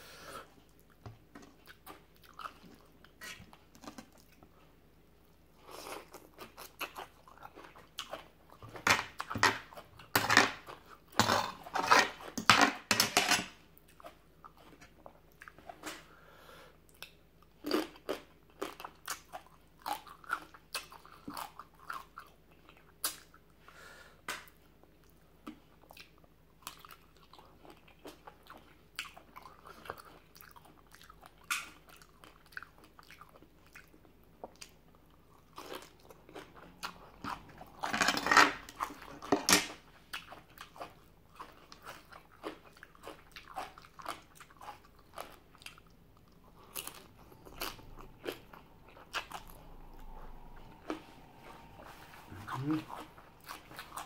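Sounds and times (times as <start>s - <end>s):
person chewing crunchy food: 0.4s - 16.2s, 16.8s - 23.5s, 24.4s - 54.0s.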